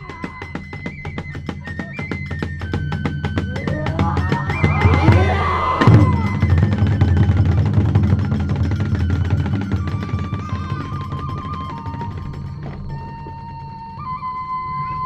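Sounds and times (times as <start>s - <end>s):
drumming: 0.0s - 14.0s
flute-like notes: 0.0s - 15.0s.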